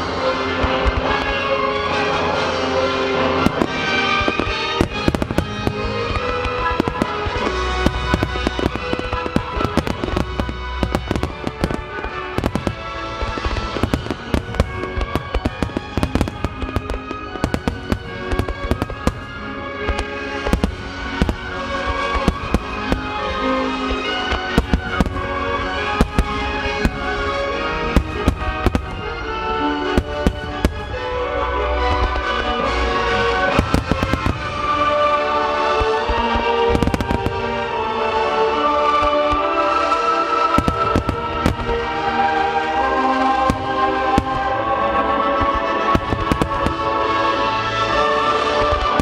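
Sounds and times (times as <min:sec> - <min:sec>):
music playing: 0:00.0 - 0:49.0
firework shells bursting: 0:03.2 - 0:37.7, 0:40.2 - 0:49.0.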